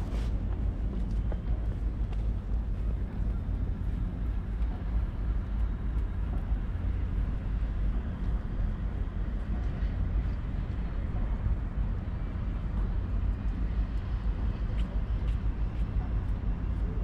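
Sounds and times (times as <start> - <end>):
low rumble of city ambience: 0.0 - 17.0.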